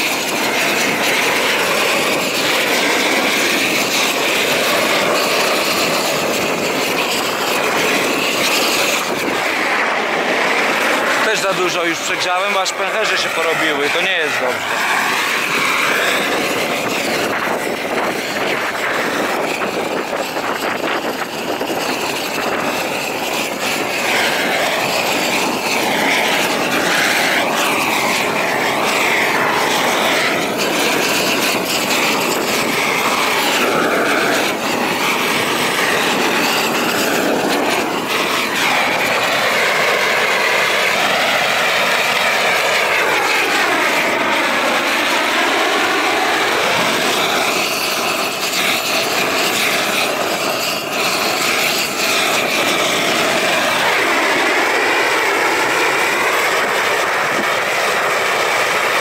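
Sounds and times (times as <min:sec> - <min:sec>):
gas torch roaring: 0:00.0 - 0:59.0.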